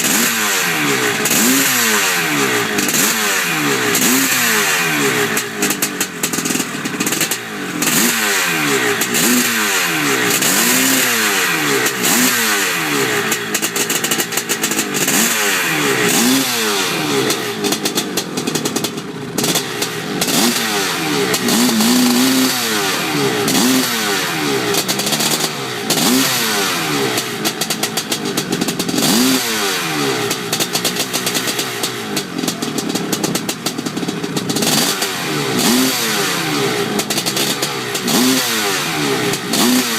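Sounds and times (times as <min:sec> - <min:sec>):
two-stroke dirt bike revving: 0:00.0 - 0:39.9.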